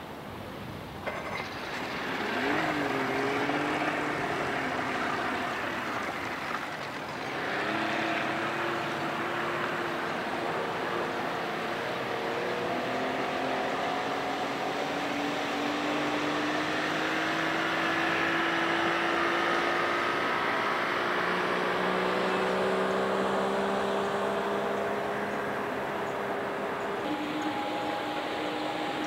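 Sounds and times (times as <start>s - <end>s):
outboard motor running: 1.1s - 29.0s.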